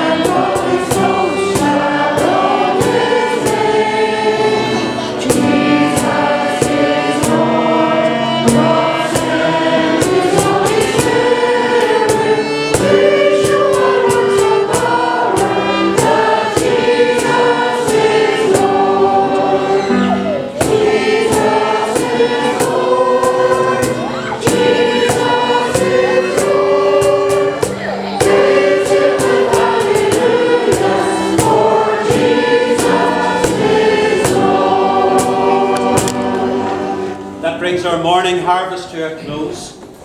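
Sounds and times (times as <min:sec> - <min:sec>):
struck chords accompaniment: 0:00.0 - 0:38.5
choir singing a hymn: 0:00.0 - 0:39.7.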